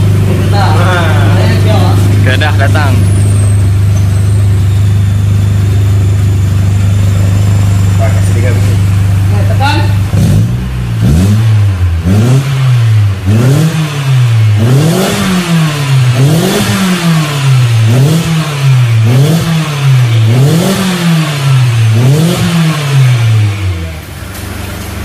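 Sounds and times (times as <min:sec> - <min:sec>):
car engine revving in blips: 0:00.0 - 0:25.0.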